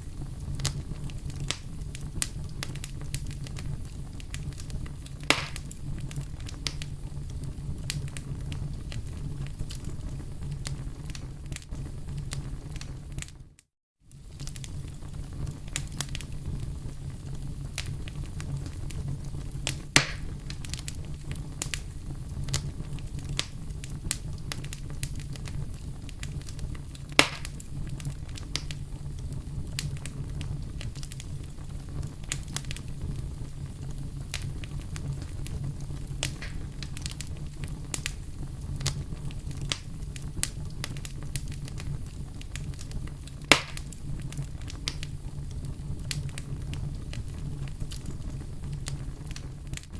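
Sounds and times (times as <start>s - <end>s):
fire popping loudly: 0.0s - 13.5s, 14.1s - 49.9s
wood fire crackling: 0.0s - 49.9s.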